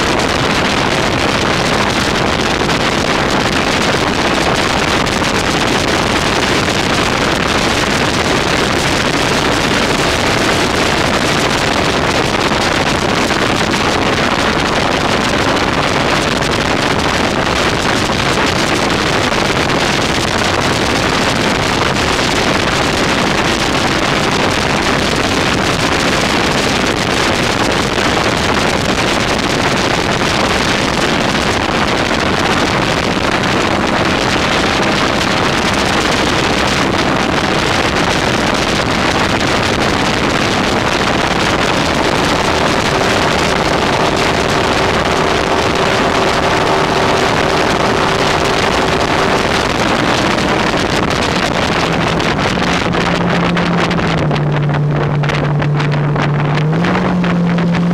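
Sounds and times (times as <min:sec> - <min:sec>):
boat engine running: 0:00.0 - 0:57.9
wind buffeting microphone: 0:00.0 - 0:57.9.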